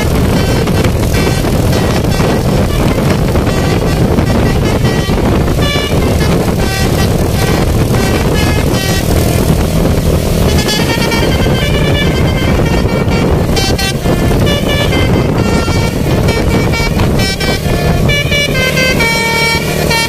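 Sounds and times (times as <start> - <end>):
bus air horn melody: 0.0 - 20.0
loud low rumble: 0.0 - 20.0.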